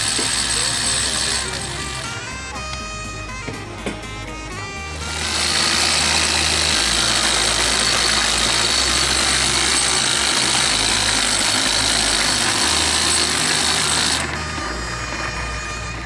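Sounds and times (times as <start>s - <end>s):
cordless drill whirring: 0.0s - 16.0s.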